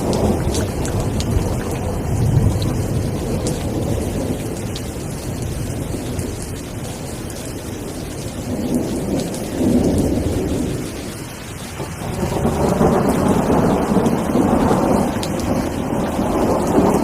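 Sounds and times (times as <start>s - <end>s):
rolling thunder rumble: 0.0s - 17.0s
steady rain: 0.0s - 17.0s.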